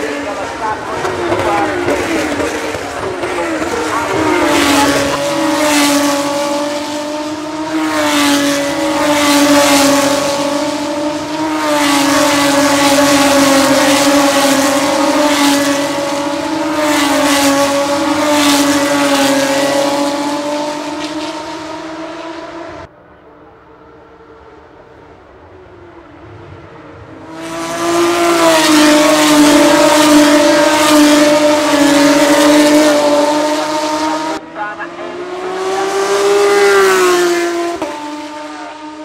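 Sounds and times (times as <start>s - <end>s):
cars whooshing past: 0.0s - 22.9s, 26.0s - 39.0s
race car engines at high revs: 0.0s - 39.0s.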